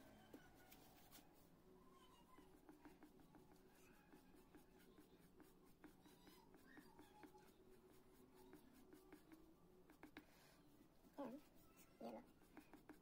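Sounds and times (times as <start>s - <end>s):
pastel scratching on paper: 2.0s - 13.0s.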